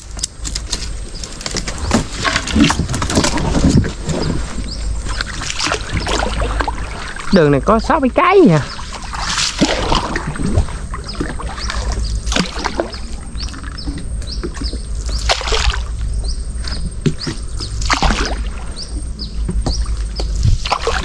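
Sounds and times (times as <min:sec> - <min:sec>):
steady low hum: 0:00.0 - 0:21.0
paddle strokes splashing: 0:01.7 - 0:16.0, 0:16.6 - 0:21.0
water splashing and dripping: 0:02.1 - 0:21.0.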